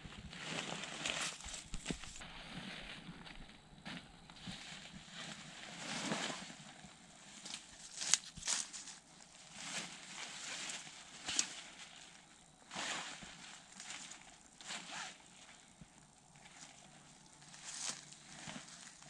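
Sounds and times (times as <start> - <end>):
rustling: 0.0 - 19.0.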